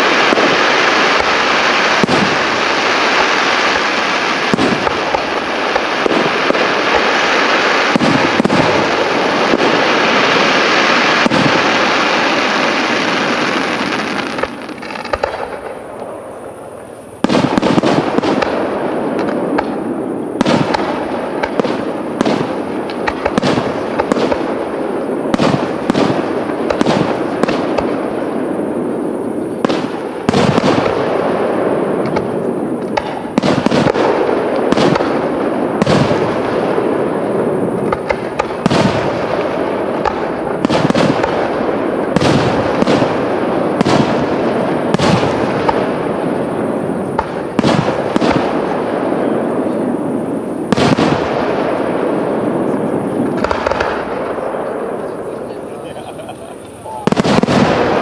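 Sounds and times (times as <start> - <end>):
firework shells launching and bursting: 0.0 - 58.0.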